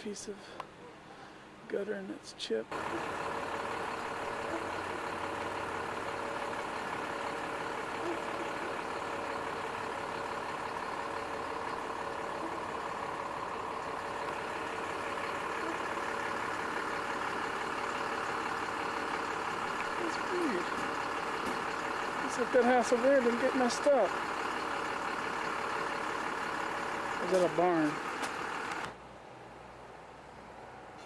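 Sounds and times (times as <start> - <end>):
engine idling: 2.7 - 29.0.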